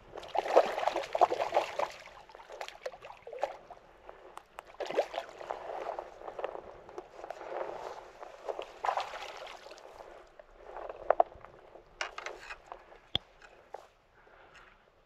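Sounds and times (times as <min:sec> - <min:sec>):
water splashing and sloshing: 0:00.0 - 0:13.9.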